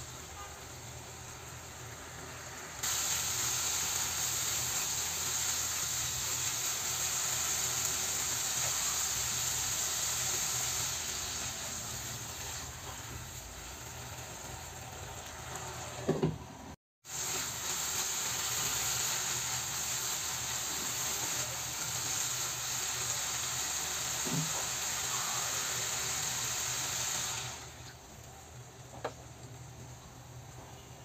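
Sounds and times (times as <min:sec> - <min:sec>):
curry sizzling in a frying pan: 0:00.0 - 0:16.0, 0:17.0 - 0:31.0.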